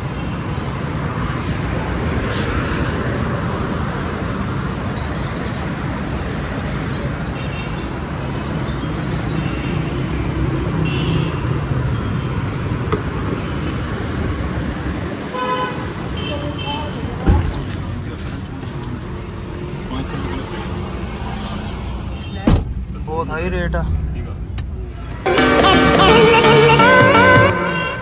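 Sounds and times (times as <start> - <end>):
passing motor vehicles rumble: 0.0 - 28.0.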